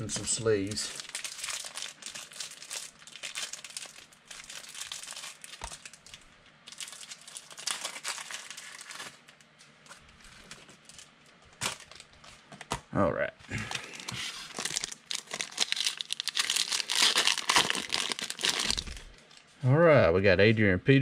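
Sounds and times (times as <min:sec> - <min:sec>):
plastic packaging crinkling and tearing: 0:00.0 - 0:12.5, 0:13.6 - 0:19.5.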